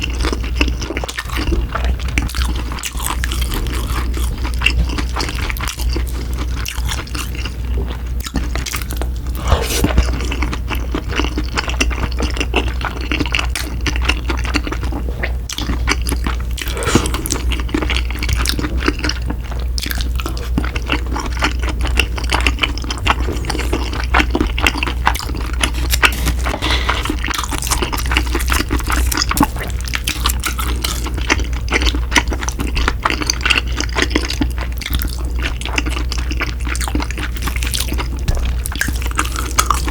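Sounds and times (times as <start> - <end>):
wet sticky chewing: 0.0 - 39.9
steady low hum: 3.3 - 39.9.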